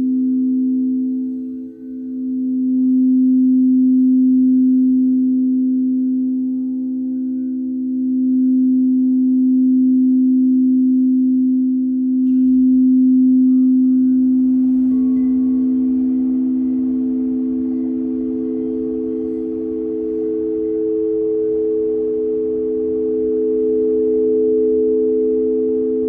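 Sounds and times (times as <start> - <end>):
singing bowl held tone: 0.0 - 26.0.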